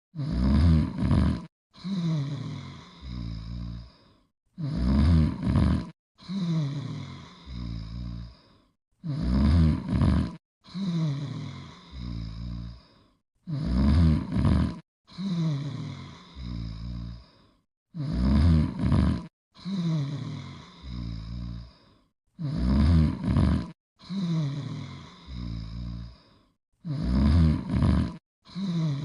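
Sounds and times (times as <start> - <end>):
cartoon dog snoring: 0.1 - 29.0.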